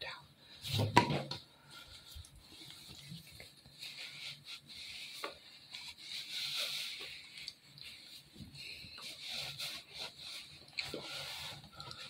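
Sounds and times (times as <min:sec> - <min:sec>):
towel rustling over face: 0:01.6 - 0:12.0.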